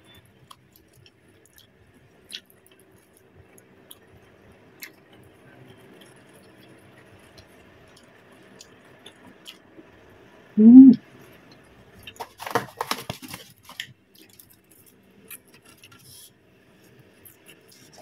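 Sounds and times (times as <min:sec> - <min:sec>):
chewing crispy food: 0:00.2 - 0:09.7, 0:11.4 - 0:18.0.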